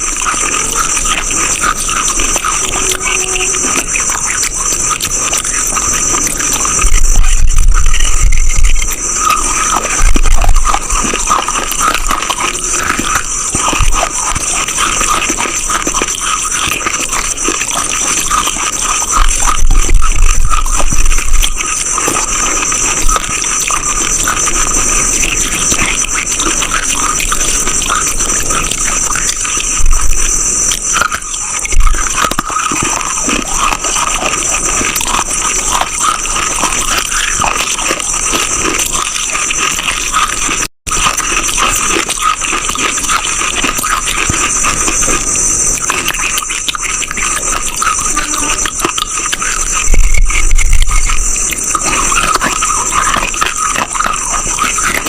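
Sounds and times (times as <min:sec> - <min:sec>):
crunching and chewing clay: 0:00.0 - 0:55.0.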